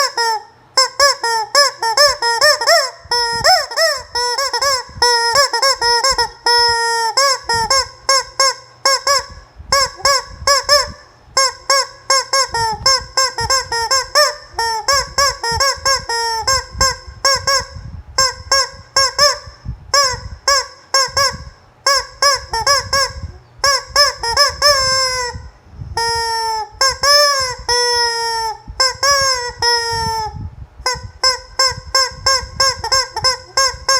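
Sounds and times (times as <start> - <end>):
chicken squeaky honking calls: 0.0 - 30.3.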